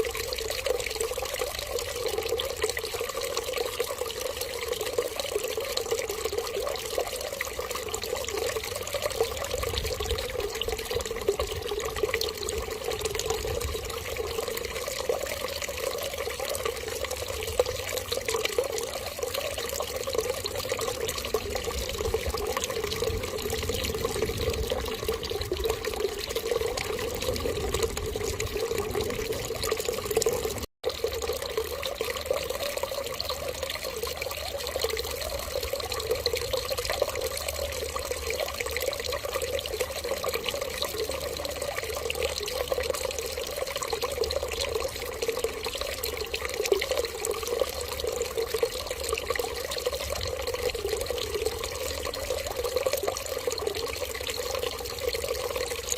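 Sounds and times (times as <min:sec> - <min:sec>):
running water stream: 0:00.0 - 0:55.9.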